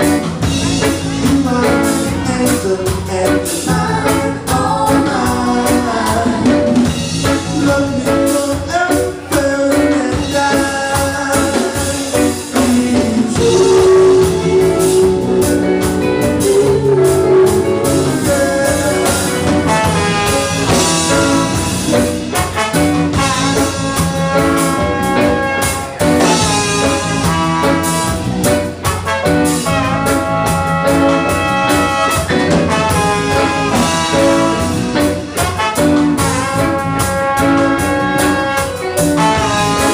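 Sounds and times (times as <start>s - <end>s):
drum kit: 0.0s - 39.9s
jazz brass music: 0.0s - 39.9s.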